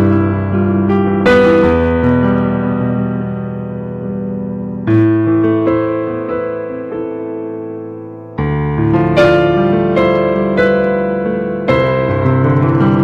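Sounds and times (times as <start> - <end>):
electric piano music: 0.0 - 13.0.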